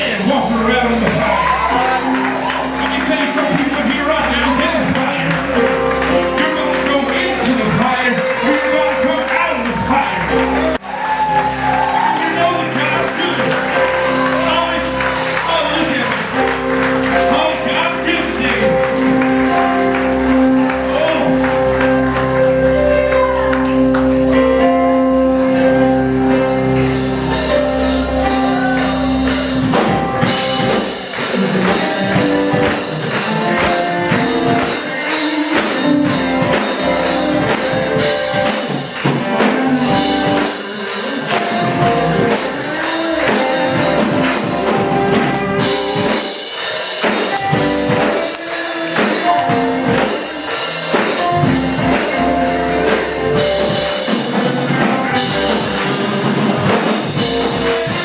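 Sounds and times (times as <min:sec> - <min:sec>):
drum kit: 0:00.0 - 0:58.0
guitar playing: 0:00.0 - 0:58.0
live worship band music: 0:00.0 - 0:58.0.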